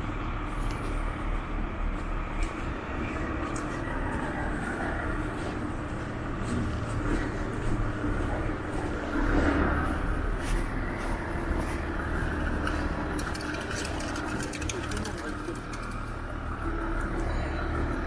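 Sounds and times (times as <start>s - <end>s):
street noise: 0.0s - 18.0s
vehicle engine running: 0.0s - 18.0s.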